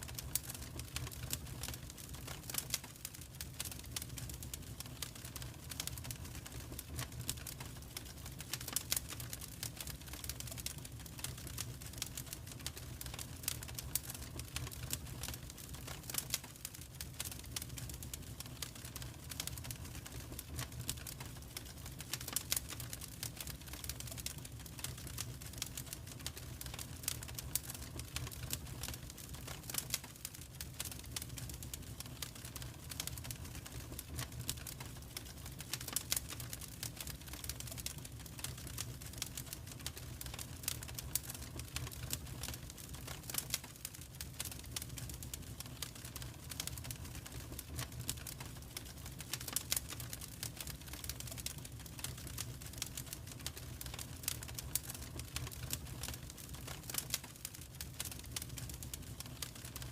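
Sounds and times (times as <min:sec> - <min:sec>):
low fire rumble: 0:00.0 - 0:59.9
wood fire crackling: 0:00.0 - 0:59.9.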